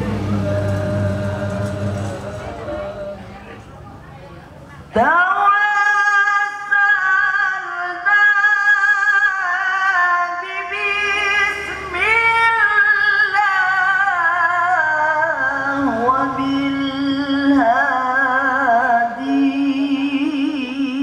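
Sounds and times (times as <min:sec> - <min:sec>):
man singing melismatic song: 0:00.0 - 0:03.6, 0:05.0 - 0:21.0.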